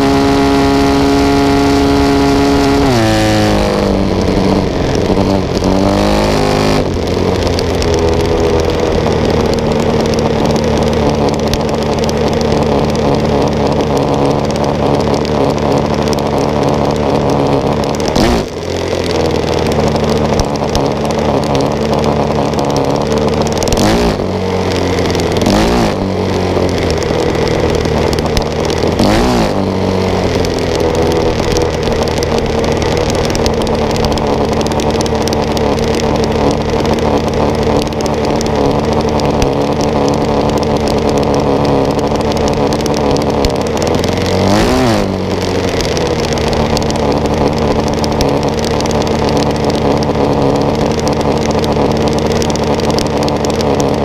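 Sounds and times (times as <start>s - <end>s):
single-cylinder engine running: 0.0s - 54.0s.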